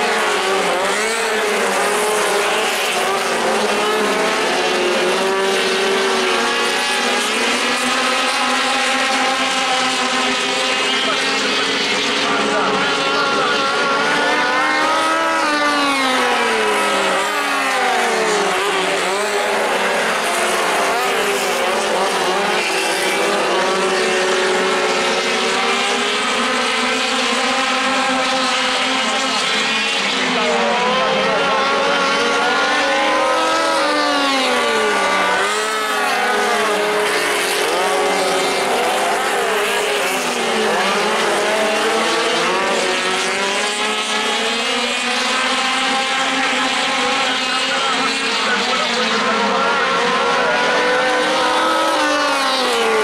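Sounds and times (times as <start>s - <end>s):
race car engines revving past: 0.0s - 53.0s.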